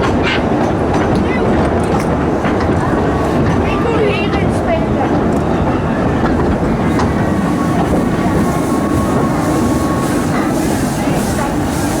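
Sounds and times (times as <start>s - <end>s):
steam train rumbling on rails: 0.0s - 12.0s.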